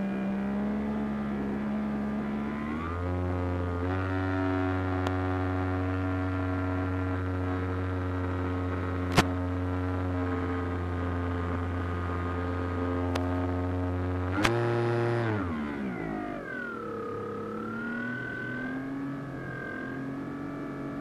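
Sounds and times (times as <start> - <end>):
electric motor hum: 0.0 - 21.0.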